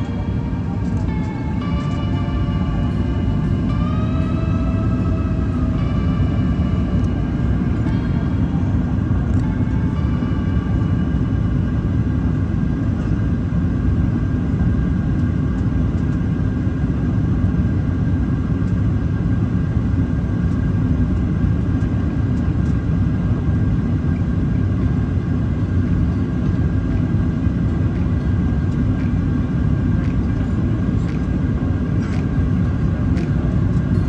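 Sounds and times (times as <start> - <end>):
faint steady whine: 0.0 - 34.0
jet engines droning: 0.0 - 34.0.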